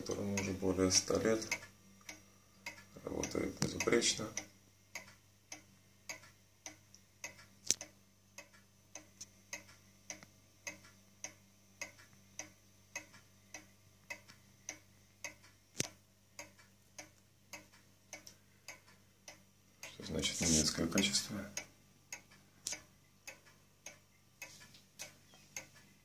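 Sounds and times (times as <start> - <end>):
pendulum clock ticking: 0.0 - 26.0.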